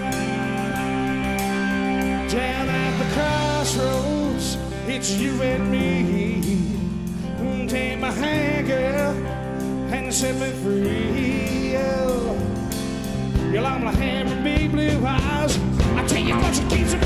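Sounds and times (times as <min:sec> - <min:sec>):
band playing a song: 0:00.0 - 0:17.0
lead vocal with vibrato: 0:00.0 - 0:17.0.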